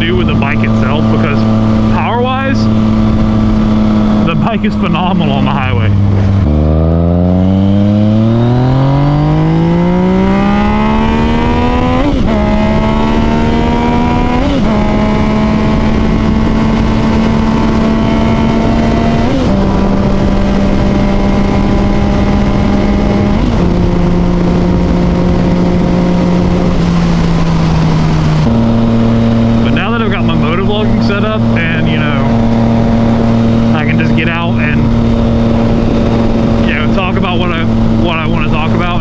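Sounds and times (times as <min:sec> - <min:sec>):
motorcycle engine accelerating: 0:00.0 - 0:39.0
wind rush: 0:00.0 - 0:39.0.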